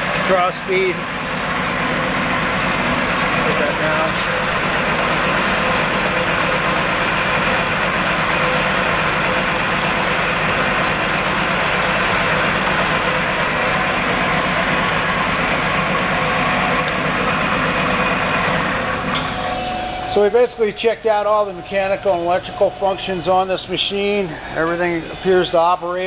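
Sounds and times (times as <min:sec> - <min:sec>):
lathe running with geared drone: 0:00.0 - 0:26.0.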